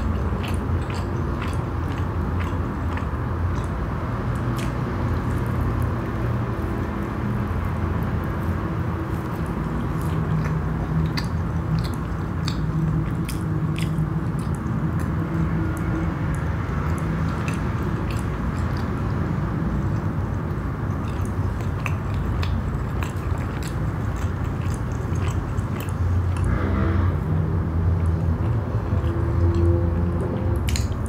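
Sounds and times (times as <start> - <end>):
close chewing with mouth clicks: 0.0 - 31.0.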